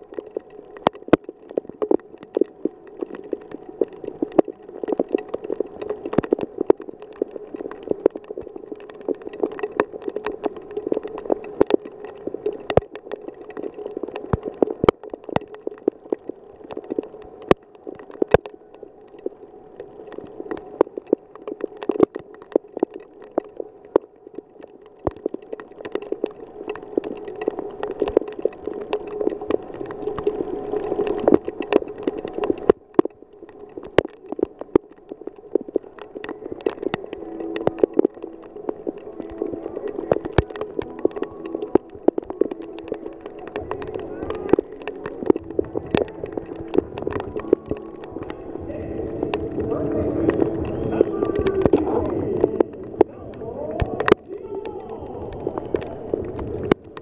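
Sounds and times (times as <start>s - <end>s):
heavy rain: 0.0s - 57.0s
raindrops tapping: 0.0s - 57.0s.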